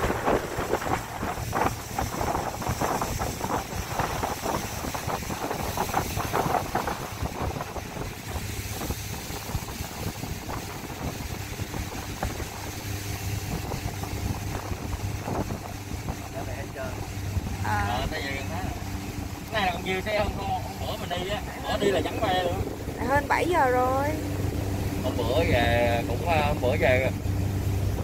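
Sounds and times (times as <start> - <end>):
motorboat engine running: 0.0 - 28.0
water splashing against hull: 0.0 - 28.0.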